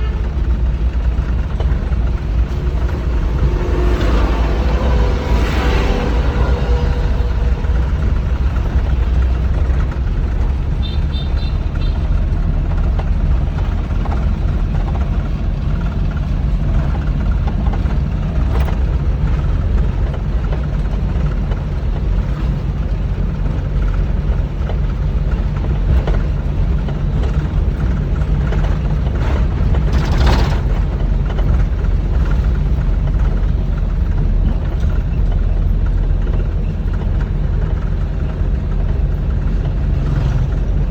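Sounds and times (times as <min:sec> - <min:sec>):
combine harvester engine rumble: 0:00.0 - 0:40.9.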